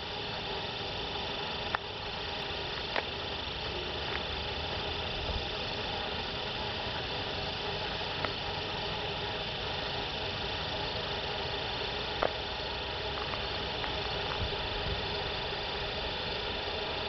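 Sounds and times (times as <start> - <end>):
constant hiss: 0.0 - 17.0
distant diesel locomotive rumble: 0.0 - 17.0.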